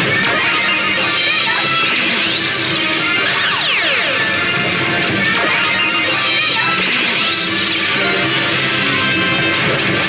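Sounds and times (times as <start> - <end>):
slot machine guitar music: 0.0 - 10.0.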